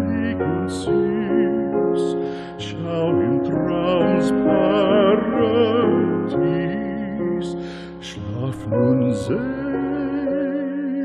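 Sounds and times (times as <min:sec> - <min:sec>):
piano chords: 0:00.0 - 0:11.0
sustained melody with vibrato: 0:00.0 - 0:11.0.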